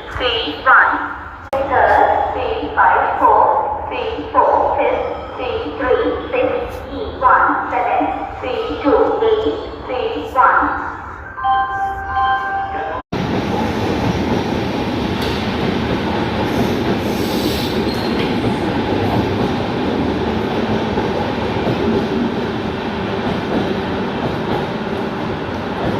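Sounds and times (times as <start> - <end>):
train passing on rails: 0.0 - 25.9.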